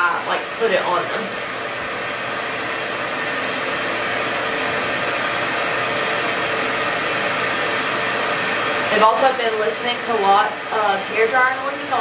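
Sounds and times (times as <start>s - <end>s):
hair dryer air rush: 0.0s - 12.0s.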